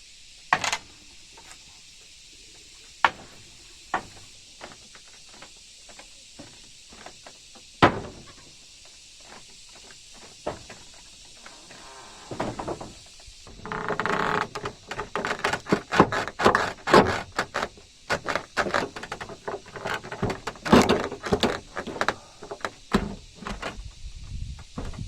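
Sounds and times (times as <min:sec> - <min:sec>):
irregular knocks and clattering: 0:03.0 - 0:08.5, 0:09.2 - 0:24.0, 0:24.6 - 0:25.0.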